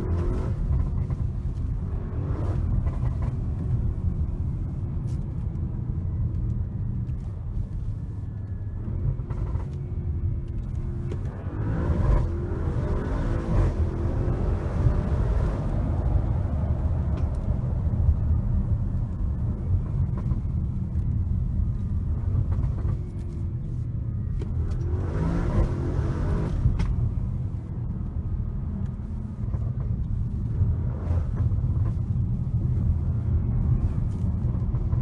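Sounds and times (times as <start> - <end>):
car engine rumble accelerating: 0.0 - 35.0.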